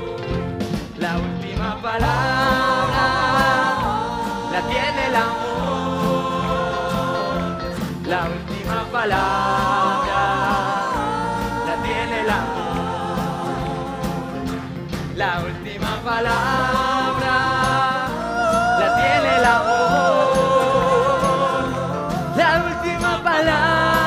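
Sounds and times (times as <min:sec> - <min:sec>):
group singing held notes: 0:00.0 - 0:24.0
live band playing: 0:00.0 - 0:24.0.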